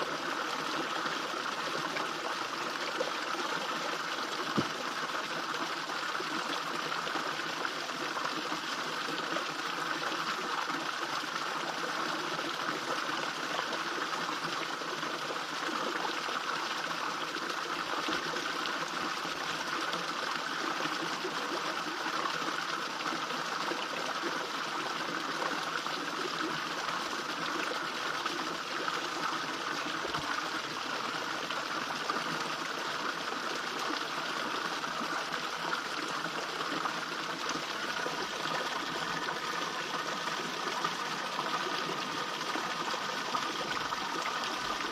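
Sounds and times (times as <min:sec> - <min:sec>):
small waterfall splashing into pond: 0:00.0 - 0:44.9.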